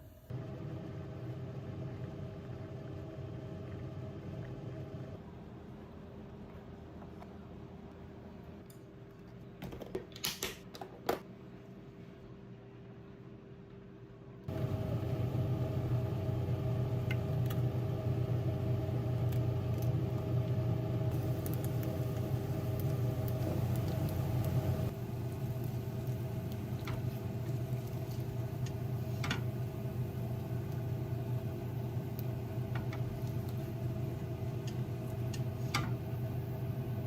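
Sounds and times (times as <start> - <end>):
low machine hum: 0.0 - 8.7, 11.5 - 37.0.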